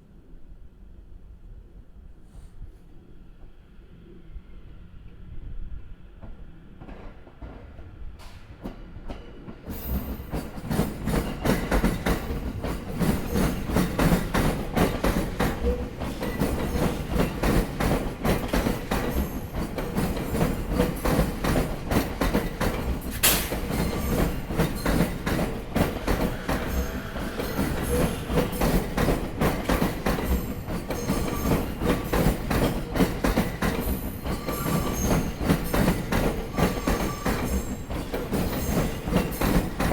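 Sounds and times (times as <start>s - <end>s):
train rumbling past: 3.2s - 39.9s
train wheels clacking over rail joints: 6.8s - 39.9s.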